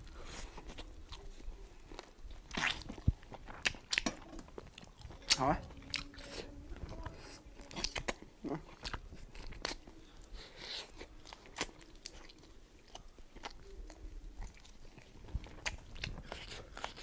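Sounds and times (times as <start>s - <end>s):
person biting and chewing meat: 0.0s - 6.4s, 7.6s - 17.0s.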